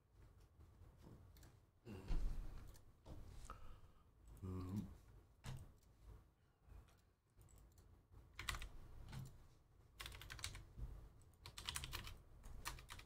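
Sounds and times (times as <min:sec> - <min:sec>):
faint typing on keyboard: 0:00.1 - 0:01.8, 0:02.4 - 0:03.6, 0:04.2 - 0:13.0.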